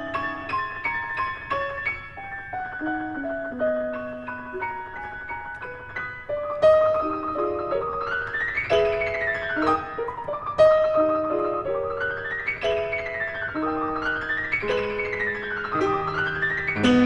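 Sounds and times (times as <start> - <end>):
piano melody: 0.0 - 17.0.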